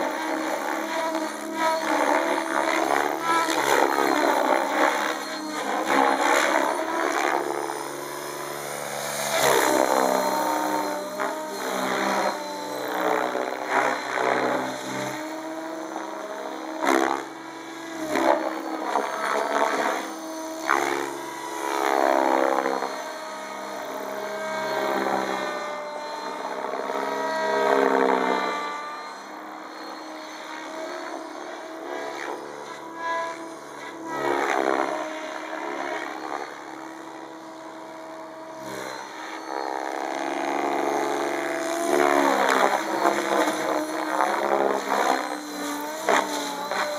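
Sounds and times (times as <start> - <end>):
rc helicopter rotor whine: 0.0 - 46.9.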